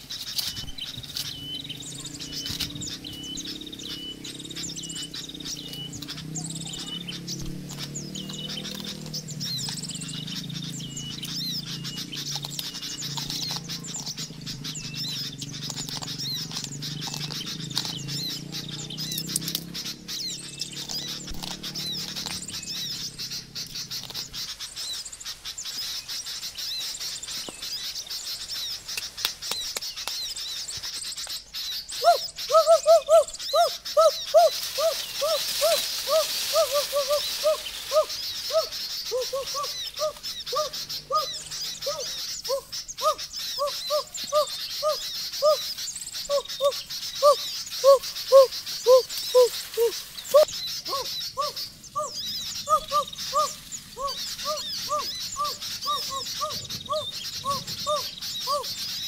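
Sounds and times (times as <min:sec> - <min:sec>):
bird hooting calls: 0:00.0 - 0:29.1, 0:31.6 - 0:59.0
high-pitched chirping chorus: 0:00.0 - 0:59.0.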